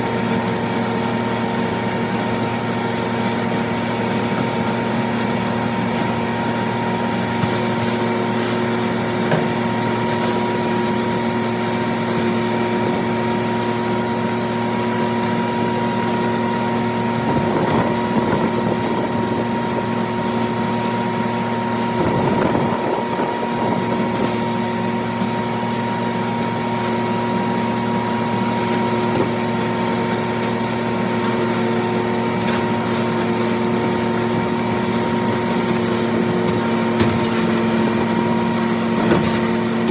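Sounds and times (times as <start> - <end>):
hammermill grinding corn: 0.0 - 39.9
tractor diesel engine running: 0.0 - 39.9.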